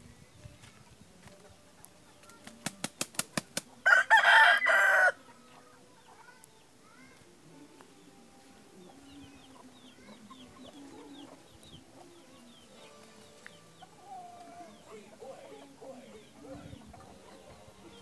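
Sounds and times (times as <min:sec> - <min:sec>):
chickens clucking: 0:00.6 - 0:06.8, 0:07.5 - 0:18.0.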